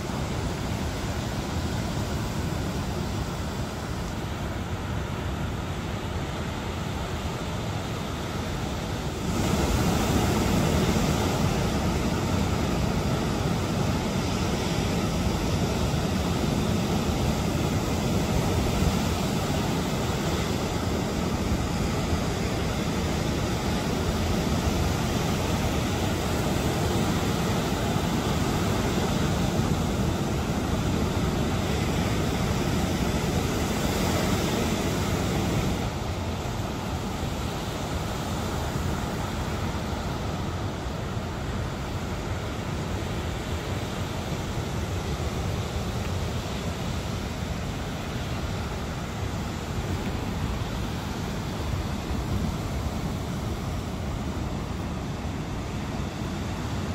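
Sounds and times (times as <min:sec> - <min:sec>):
surf breaking on sandy beach: 0:00.0 - 0:56.9.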